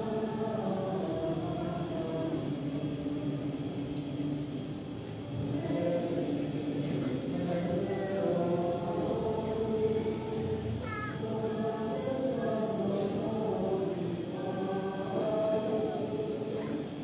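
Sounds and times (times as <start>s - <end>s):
congregation singing a hymn: 0.0s - 17.0s.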